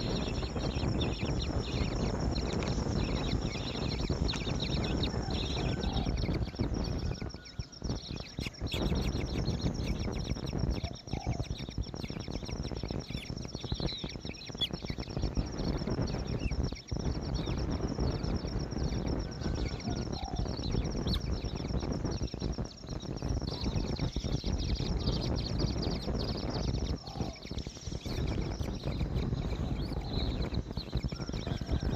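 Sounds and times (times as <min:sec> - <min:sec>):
high-pitched pulsing chirring: 0:00.0 - 0:31.9
wind rumbling on microphone: 0:00.0 - 0:31.9.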